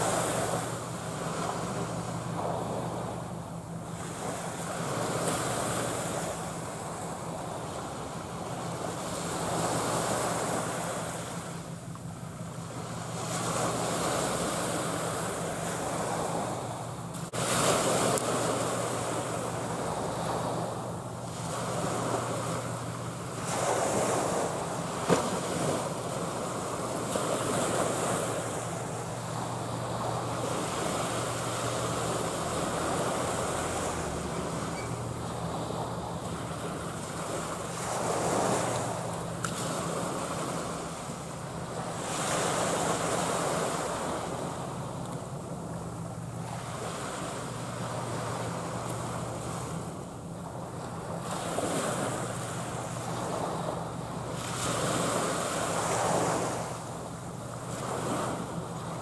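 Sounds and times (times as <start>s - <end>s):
sea waves washing: 0.0s - 59.0s
steady low hum: 0.0s - 59.0s.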